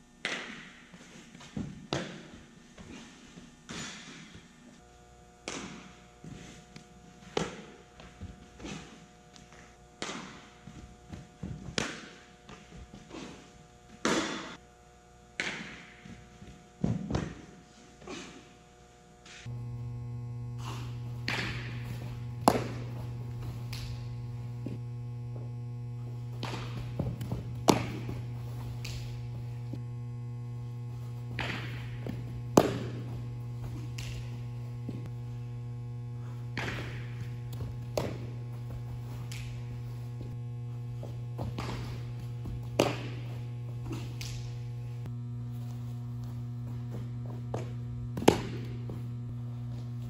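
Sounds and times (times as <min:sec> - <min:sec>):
electrical mains hum: 0:00.0 - 0:50.0.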